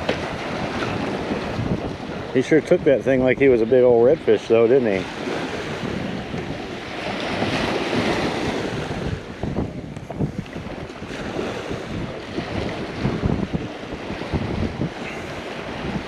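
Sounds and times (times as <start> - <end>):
surf washing: 0.0 - 16.0
wind buffeting microphone: 0.0 - 16.0.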